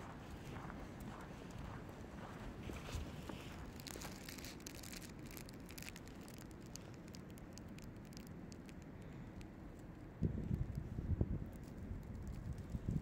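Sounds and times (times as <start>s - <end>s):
light ticks and crackles: 0.0s - 13.0s
low steady rumble: 0.0s - 13.0s.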